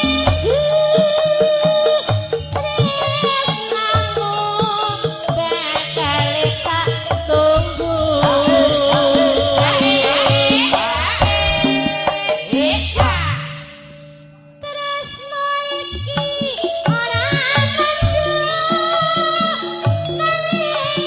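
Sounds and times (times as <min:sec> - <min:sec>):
gamelan music: 0:00.0 - 0:21.0.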